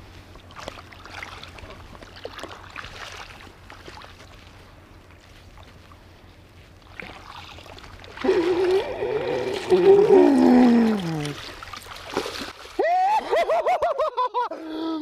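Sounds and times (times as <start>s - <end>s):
light water sounds: 0.0s - 13.6s.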